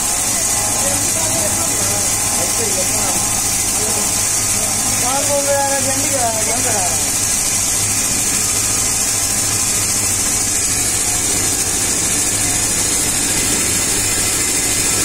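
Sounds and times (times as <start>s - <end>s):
grinding and coolant spray hiss: 0.0s - 15.0s
low machine hum: 0.0s - 15.0s.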